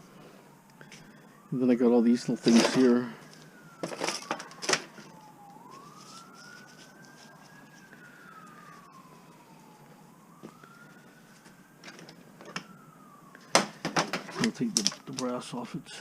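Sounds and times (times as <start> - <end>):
faint emergency siren wailing: 0.0 - 16.0.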